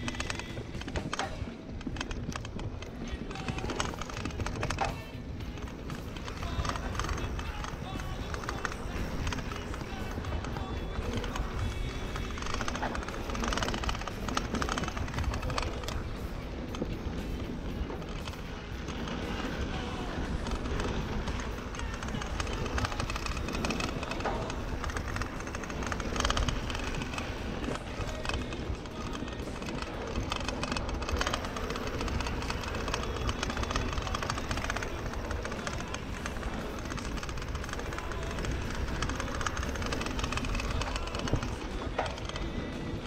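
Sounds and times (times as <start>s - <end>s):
bike rattling on rough trail: 0.0s - 43.0s.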